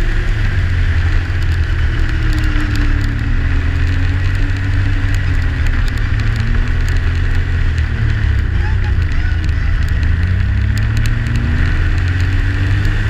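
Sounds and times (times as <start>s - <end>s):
snowmobile engine running: 0.0s - 13.0s
snowmobile track rattling on snow: 0.0s - 13.0s.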